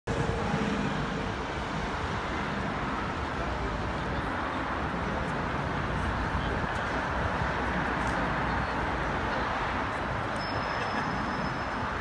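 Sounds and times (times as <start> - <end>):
rumble of passing vehicles: 0.1 - 12.0.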